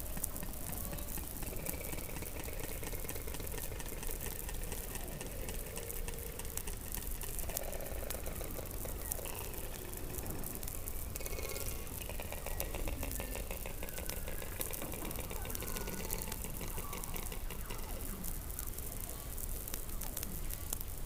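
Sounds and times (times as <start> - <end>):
constant clicking: 0.0 - 21.0.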